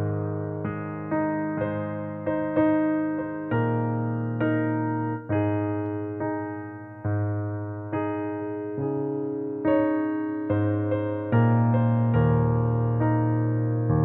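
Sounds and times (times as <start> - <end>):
electric piano hymn chords: 0.0 - 14.0.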